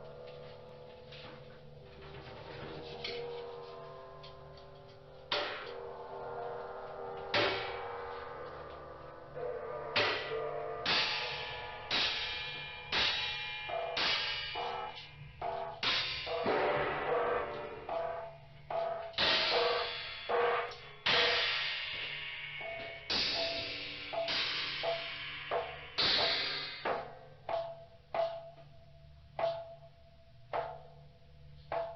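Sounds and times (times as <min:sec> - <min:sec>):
struck metal percussion: 0:00.0 - 0:31.9.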